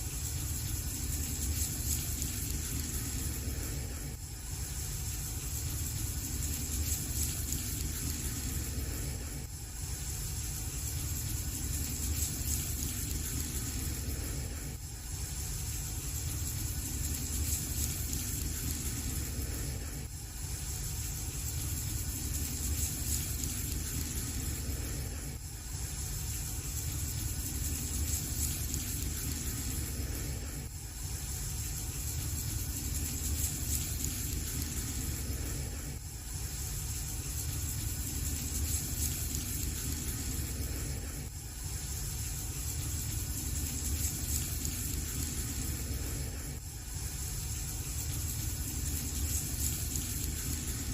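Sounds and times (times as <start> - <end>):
fire burning with hiss: 0.0 - 50.9.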